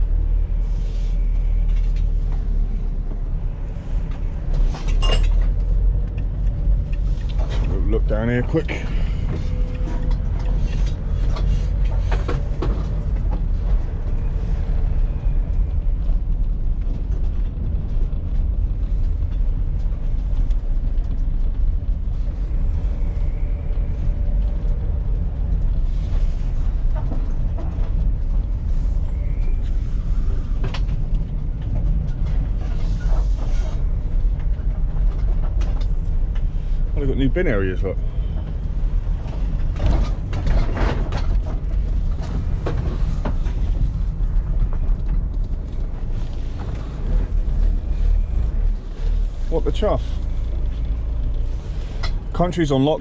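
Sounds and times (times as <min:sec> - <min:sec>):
vehicle engine and road rumble: 0:00.0 - 0:53.0.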